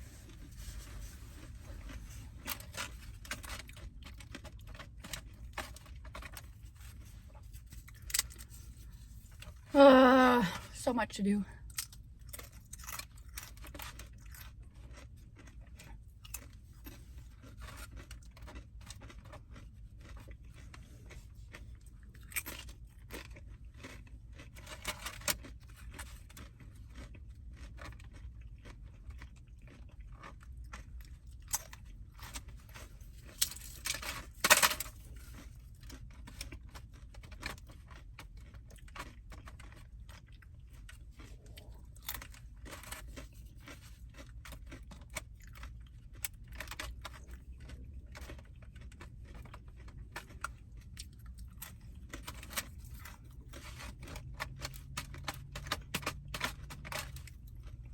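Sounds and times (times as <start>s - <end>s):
chewing and crunching food: 0.0s - 57.9s.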